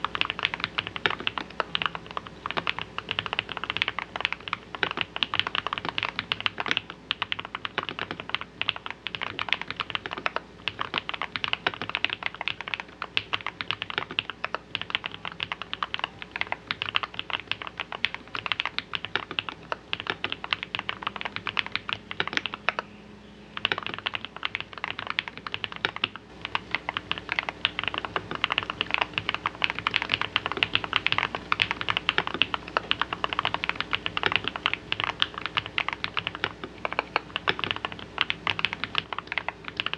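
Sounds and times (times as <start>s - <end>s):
thocky mechanical keyboard typing: 0.0s - 22.9s, 23.6s - 39.9s.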